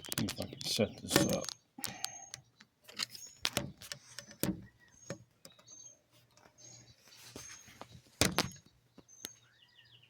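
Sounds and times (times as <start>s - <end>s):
handling knocks and clicks: 0.0s - 6.6s, 7.8s - 9.4s
faint bird chirps: 0.0s - 10.0s.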